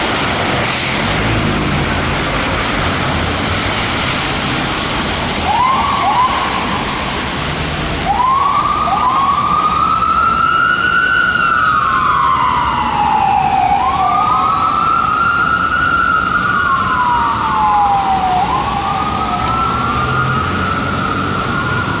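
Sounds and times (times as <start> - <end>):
road and engine noise: 0.0 - 22.0
fire engine siren yelping and wailing: 0.7 - 22.0.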